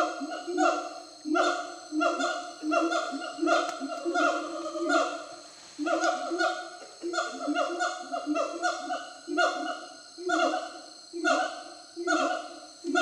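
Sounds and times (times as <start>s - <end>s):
gibbons calling: 0.0s - 13.0s.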